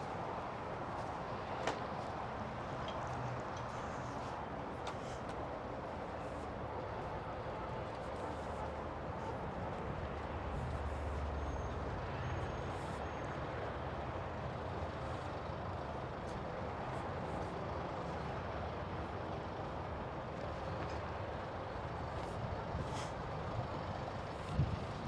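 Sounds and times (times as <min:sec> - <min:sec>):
road and traffic noise: 0:00.0 - 0:25.0.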